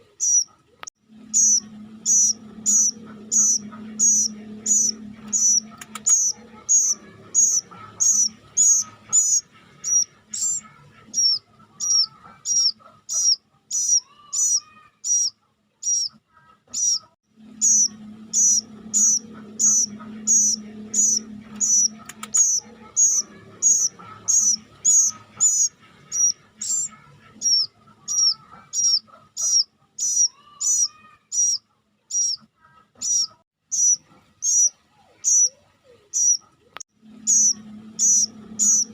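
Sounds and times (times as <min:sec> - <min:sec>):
cuckoo chick calling: 0:00.0 - 0:38.9
faint low hum: 0:00.0 - 0:38.9.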